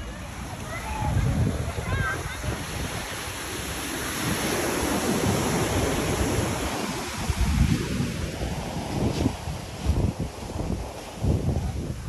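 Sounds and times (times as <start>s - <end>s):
surf breaking on beach: 0.0s - 12.0s
wind gusting on microphone: 0.0s - 12.0s.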